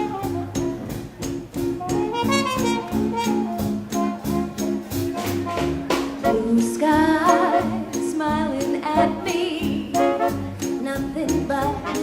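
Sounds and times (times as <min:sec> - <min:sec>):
swing band playing: 0:00.0 - 0:12.0.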